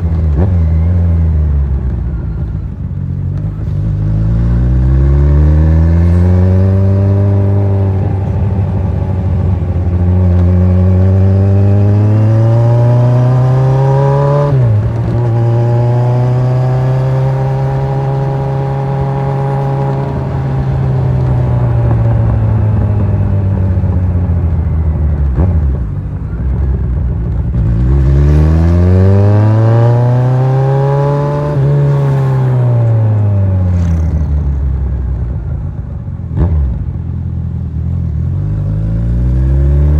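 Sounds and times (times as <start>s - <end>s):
motorcycle engine revving: 0.0s - 2.5s, 3.3s - 35.4s, 36.2s - 39.9s.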